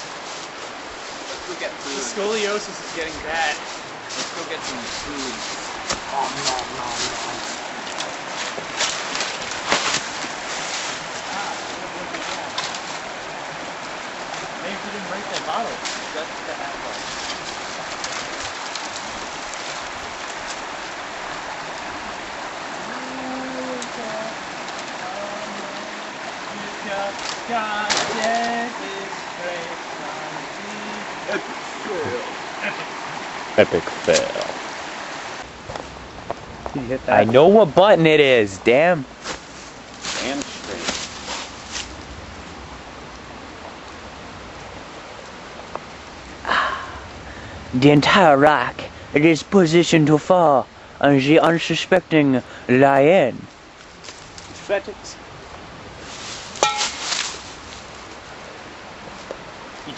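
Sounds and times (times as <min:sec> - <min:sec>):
outdoor hiss: 0:00.0 - 0:59.9
rushing water: 0:00.0 - 0:59.9.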